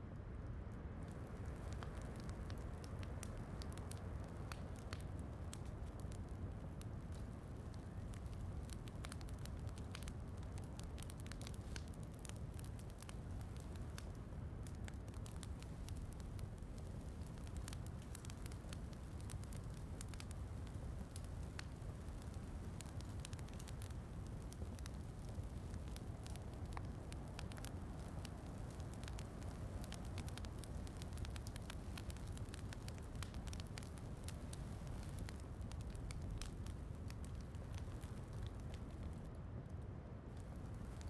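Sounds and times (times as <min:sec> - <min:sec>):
wood fire crackling: 0:00.1 - 0:41.0.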